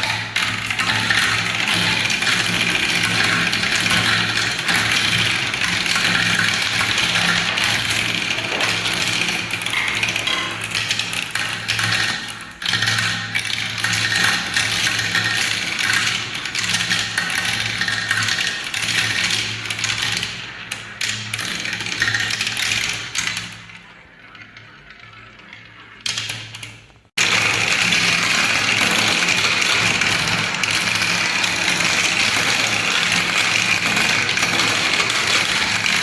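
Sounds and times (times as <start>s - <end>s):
balls rattling down marble run: 0.0s - 36.0s.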